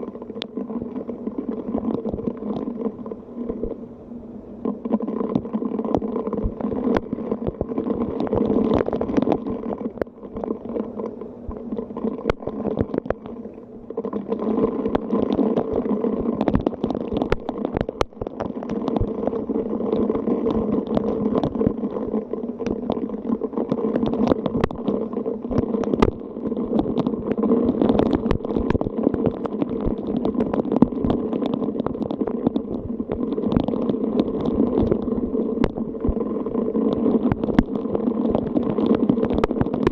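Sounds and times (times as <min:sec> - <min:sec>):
raindrops ticking: 0:00.0 - 0:03.8, 0:04.6 - 0:39.9.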